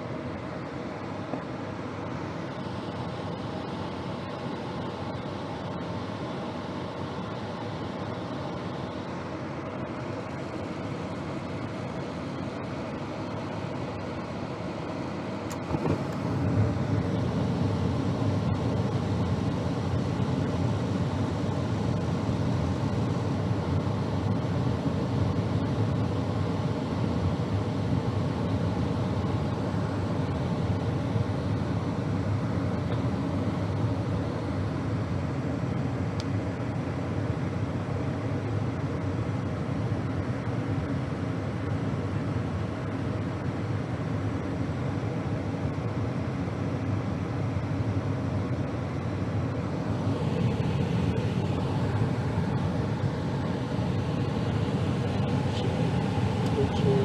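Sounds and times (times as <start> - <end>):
circulating blower running: 0.0 - 57.0
gas furnace running: 0.0 - 57.0.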